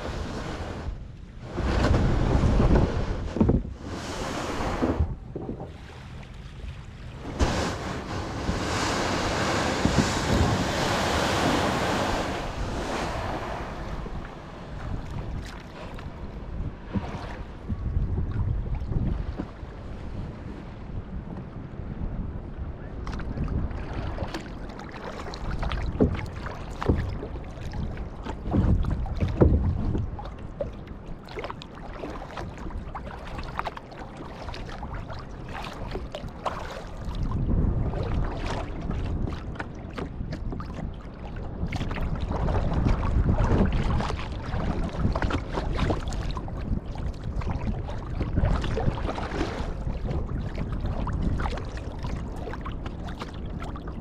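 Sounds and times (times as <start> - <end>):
paddle strokes splashing: 0.0 - 19.6, 23.1 - 54.0
wind on microphone: 0.0 - 54.0.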